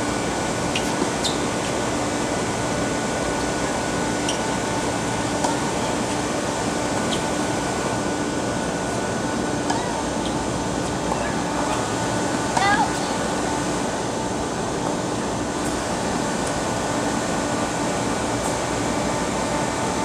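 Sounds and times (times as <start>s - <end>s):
background hiss and hum: 0.0s - 20.0s.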